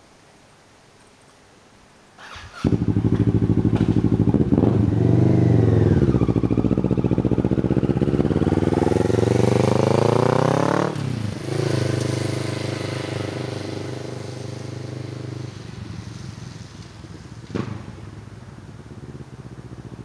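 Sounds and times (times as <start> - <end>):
motorcycle engine accelerating: 2.2 - 20.0.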